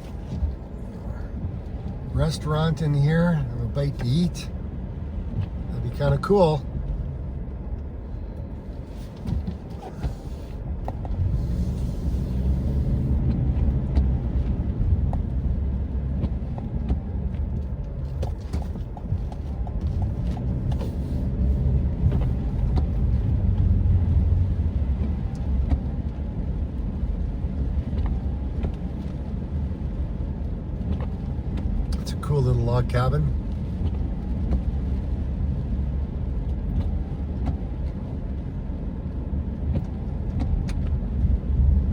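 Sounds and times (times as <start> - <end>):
engine and tyres on wet road: 0.0 - 41.9.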